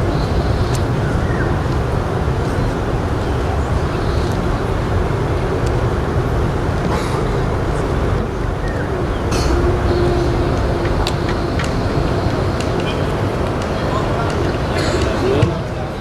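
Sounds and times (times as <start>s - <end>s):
steady low rumbling noise: 0.0s - 16.0s.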